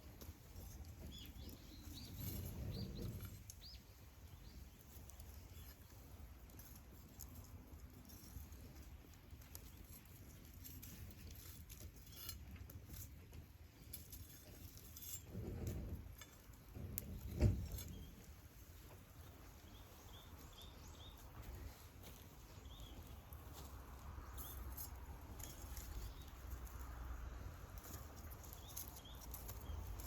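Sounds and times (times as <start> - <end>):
dull low rustle: 0.0 - 30.0
wood fire crackling: 0.0 - 30.0.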